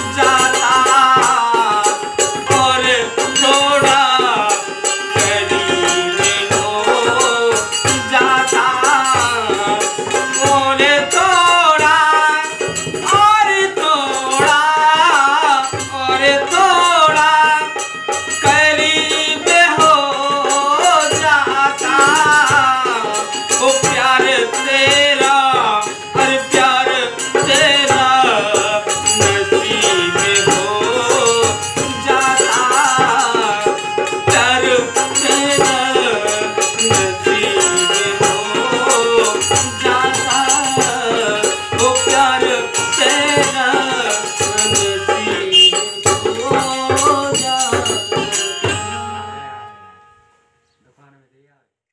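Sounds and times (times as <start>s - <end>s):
hand cymbals jingling: 0.0s - 49.2s
man singing: 0.0s - 49.4s
dholak drum: 0.0s - 50.2s
keyed instrument: 0.0s - 50.8s.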